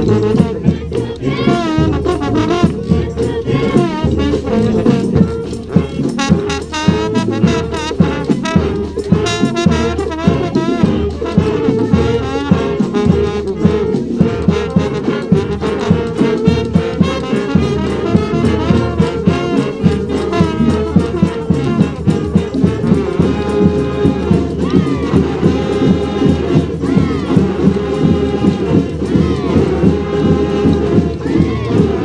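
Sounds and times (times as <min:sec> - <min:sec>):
brass band playing: 0:00.0 - 0:32.0
steady drum beat: 0:00.0 - 0:32.0.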